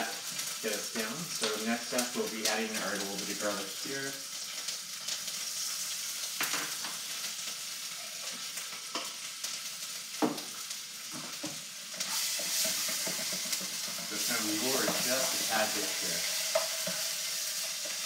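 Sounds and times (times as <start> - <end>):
garlic sizzling in oil: 0.0 - 18.0.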